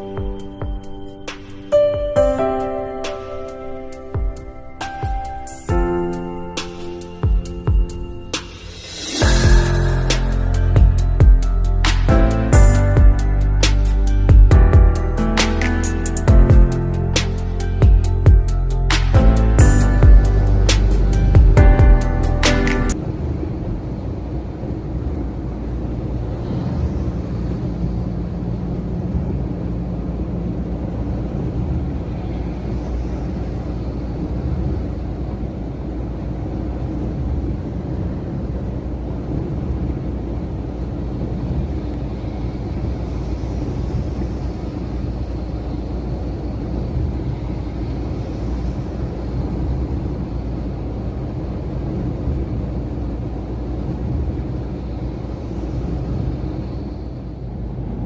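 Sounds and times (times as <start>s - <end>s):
truck engine rumbling: 0.0s - 58.0s.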